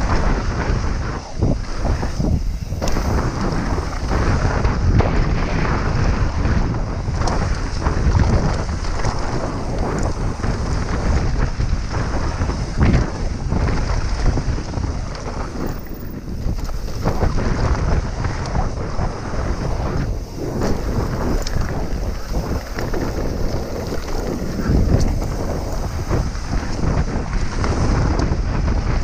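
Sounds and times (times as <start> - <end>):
tyres rolling on gravel: 0.0 - 28.7
bike rattling and clunking: 0.0 - 29.0
wind buffeting microphone: 0.0 - 29.0.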